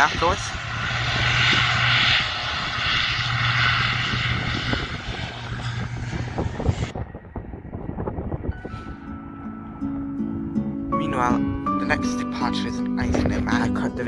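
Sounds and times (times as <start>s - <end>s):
turboprop engines droning: 0.0s - 14.0s.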